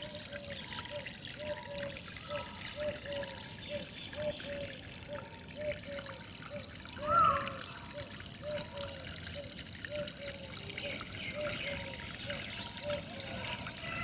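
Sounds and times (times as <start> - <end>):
water trickling: 0.0 - 14.0.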